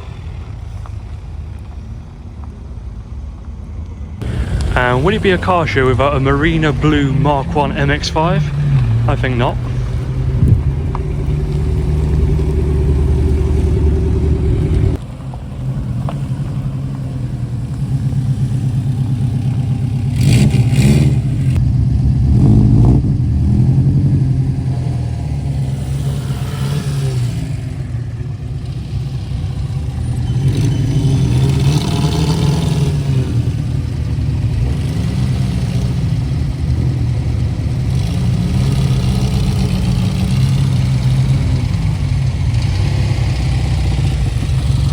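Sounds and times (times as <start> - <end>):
car engine running: 4.2 - 44.9.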